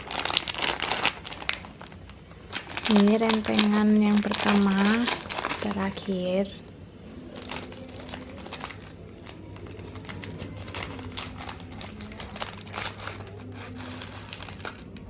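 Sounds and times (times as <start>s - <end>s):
plastic sachets crinkling: 0.0s - 15.0s.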